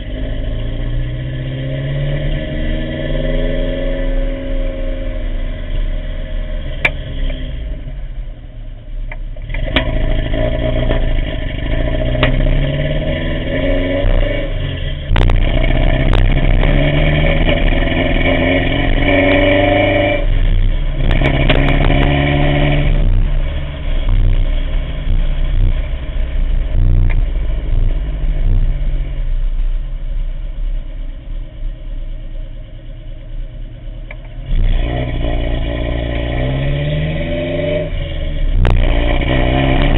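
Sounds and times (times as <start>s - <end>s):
misfiring engine running: 0.0s - 39.9s.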